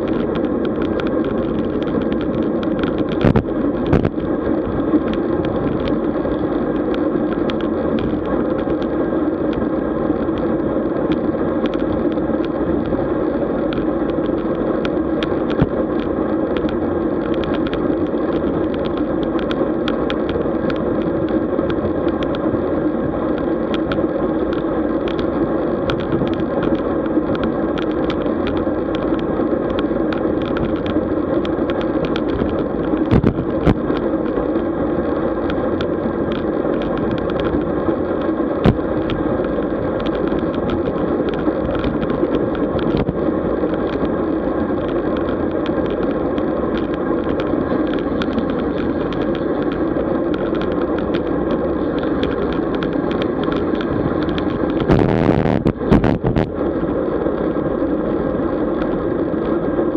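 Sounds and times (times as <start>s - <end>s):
small ticks and rattles: 0.0s - 22.6s, 23.3s - 56.5s
wind and road noise: 0.0s - 59.9s.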